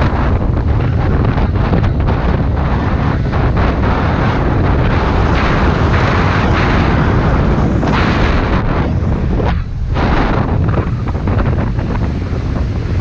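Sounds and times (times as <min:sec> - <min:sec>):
motorbike and road noise: 0:00.0 - 0:13.0
wind buffeting microphone: 0:00.0 - 0:13.0.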